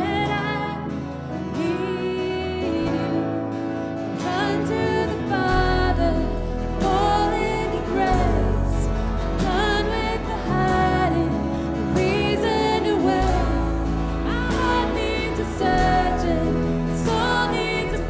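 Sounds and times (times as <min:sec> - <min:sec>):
person singing lead melody: 0:00.0 - 0:18.0
sustained bass notes: 0:00.0 - 0:18.0.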